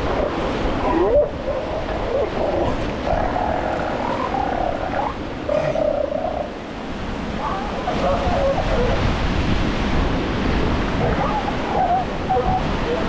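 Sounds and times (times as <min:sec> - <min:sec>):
elephant seals calling: 0:00.0 - 0:09.1, 0:10.7 - 0:13.0
surf washing: 0:00.0 - 0:13.0.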